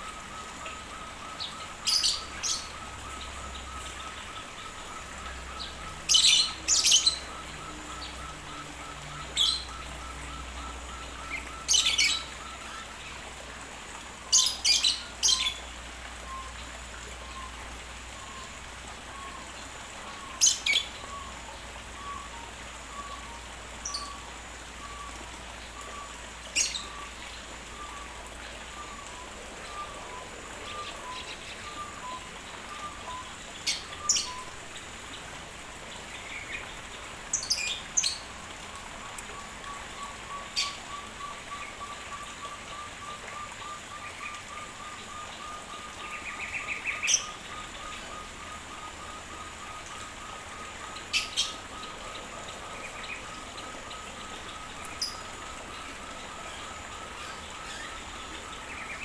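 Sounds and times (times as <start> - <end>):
partridge whistled calls: 0.0 - 13.1, 14.3 - 34.6, 36.2 - 59.0.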